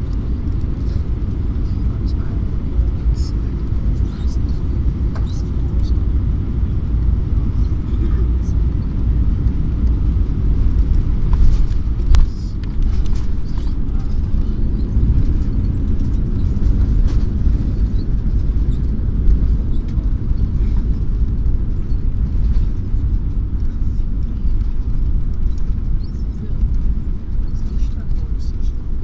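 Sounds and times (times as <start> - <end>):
low rumble of engines and wheels: 0.0 - 29.0.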